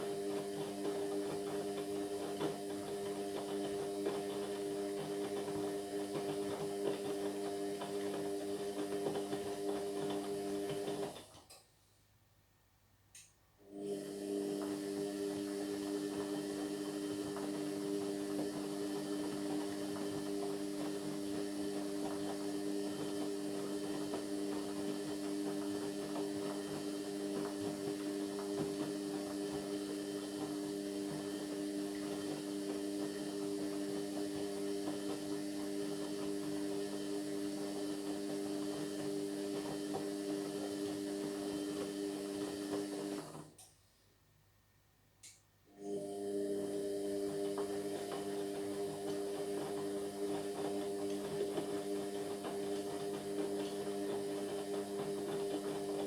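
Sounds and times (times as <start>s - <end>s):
washing machine motor hum: 0.0s - 11.4s, 13.6s - 43.6s, 45.7s - 56.0s.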